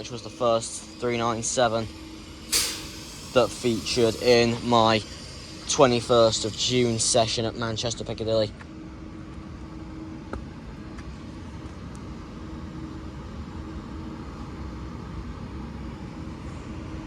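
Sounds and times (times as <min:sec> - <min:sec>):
train equipment rumble and hum: 0:00.0 - 0:17.0.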